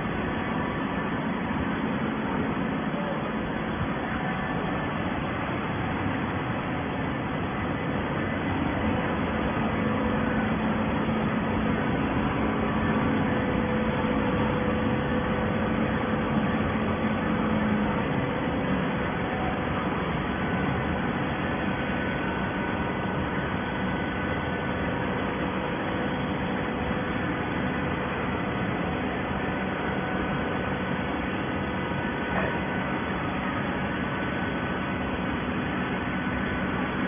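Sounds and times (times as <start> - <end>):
baler mechanical noise: 0.0 - 37.0
faint humming tones: 0.0 - 37.0.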